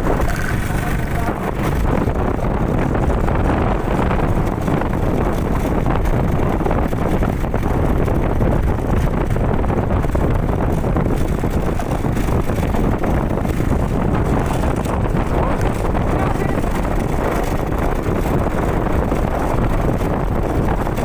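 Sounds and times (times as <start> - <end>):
motorcycle riding noise: 0.0 - 21.0
wind buffeting microphone: 0.0 - 21.0.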